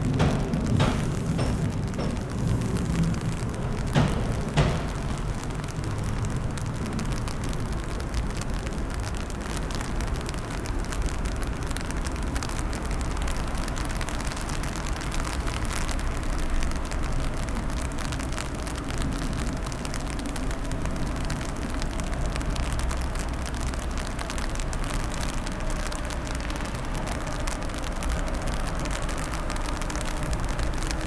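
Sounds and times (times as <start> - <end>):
rain drops tapping: 0.0 - 31.0.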